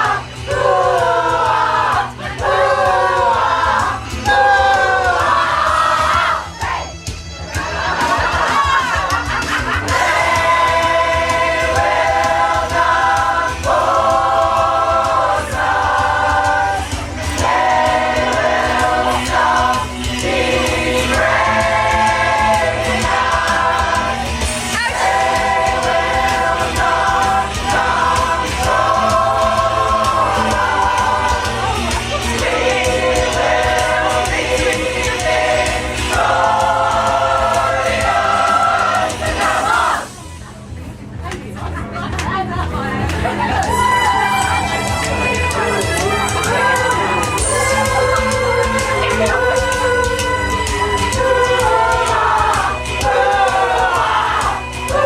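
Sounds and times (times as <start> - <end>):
choir singing wordless chords: 0.0 - 6.9, 7.7 - 40.2, 43.3 - 55.0.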